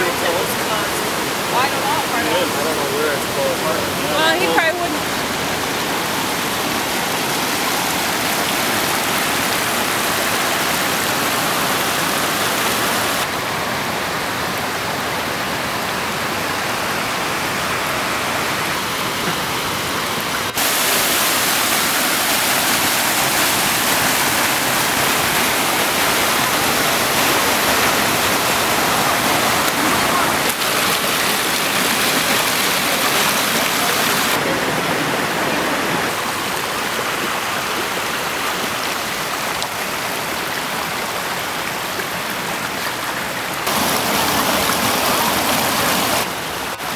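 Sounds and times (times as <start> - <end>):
floodwater rushing: 0.0 - 46.9.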